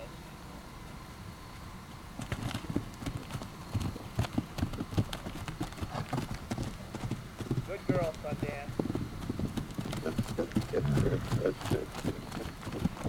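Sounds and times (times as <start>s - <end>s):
horse hooves on dirt: 2.2s - 13.0s.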